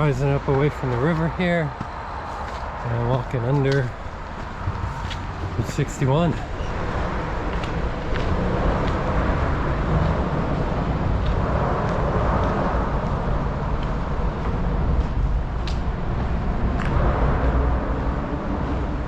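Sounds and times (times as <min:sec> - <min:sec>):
highway traffic rushing by: 0:00.0 - 0:19.0.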